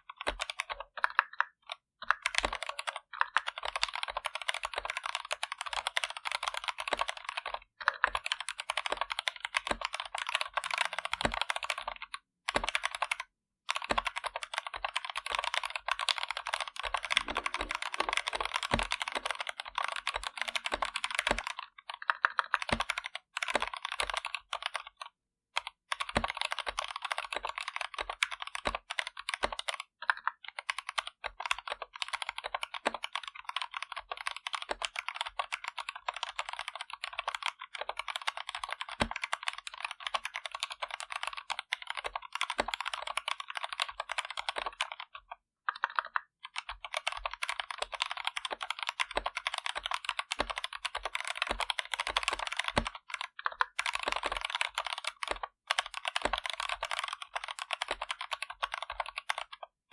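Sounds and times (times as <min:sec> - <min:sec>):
mechanical keyboard typing: 0:00.0 - 0:59.8.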